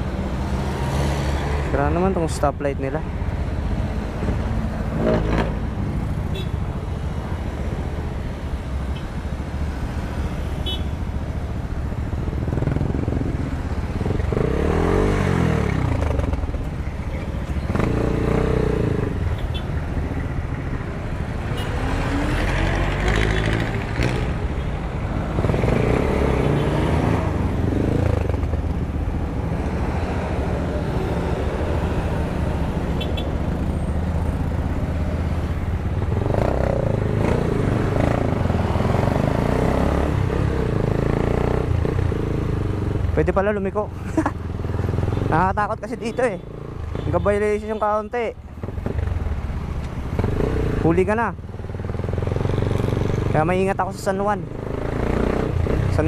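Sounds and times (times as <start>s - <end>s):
passing vehicles accelerating: 0.0s - 56.0s.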